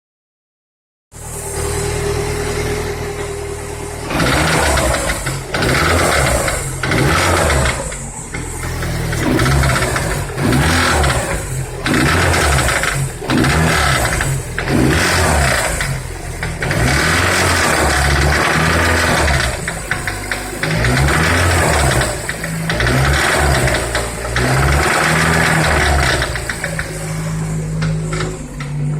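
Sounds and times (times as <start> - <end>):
car engine revving: 1.2 - 28.9
engine knocking: 4.0 - 28.9.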